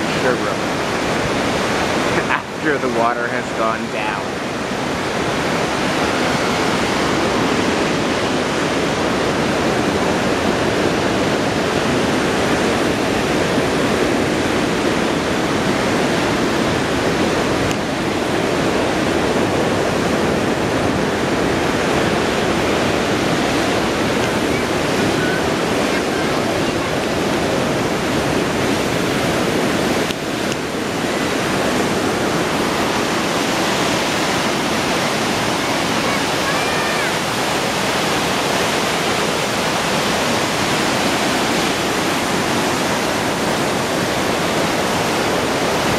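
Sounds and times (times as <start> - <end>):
river rapids rushing: 0.0 - 45.9.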